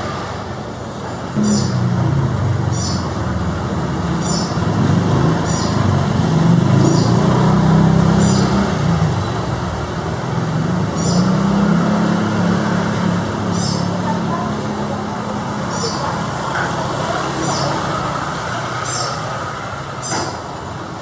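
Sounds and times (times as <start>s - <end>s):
low engine or traffic rumble: 0.0s - 21.0s.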